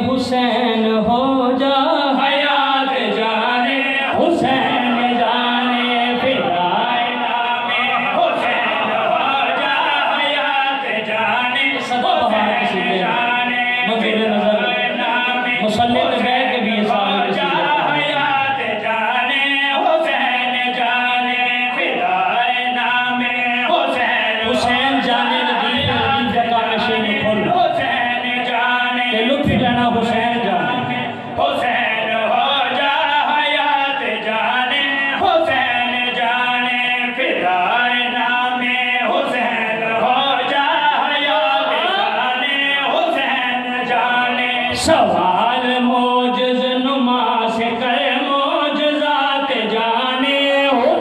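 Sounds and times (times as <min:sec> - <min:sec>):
man singing through a microphone: 0:00.0 - 0:51.0.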